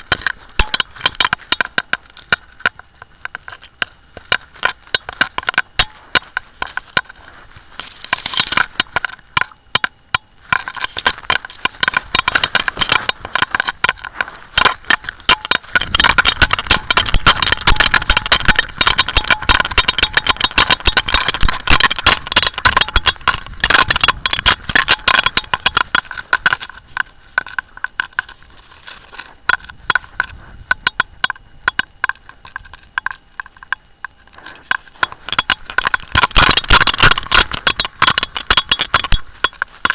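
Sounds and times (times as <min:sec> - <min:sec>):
camera crackling and rattling: 0:00.0 - 0:39.9.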